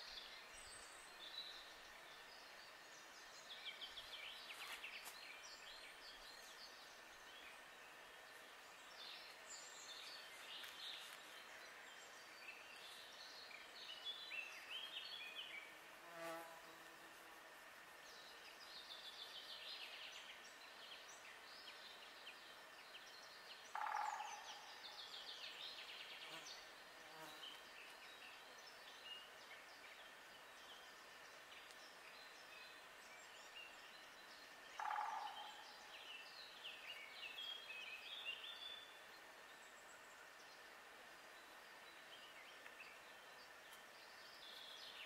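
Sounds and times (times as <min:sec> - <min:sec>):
small birds chirping: 0:00.0 - 0:16.5, 0:18.0 - 0:45.0.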